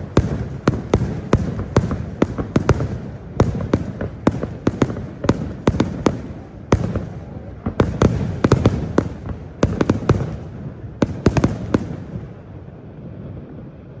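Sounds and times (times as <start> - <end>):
fireworks bangs and pops: 0.0 - 12.4.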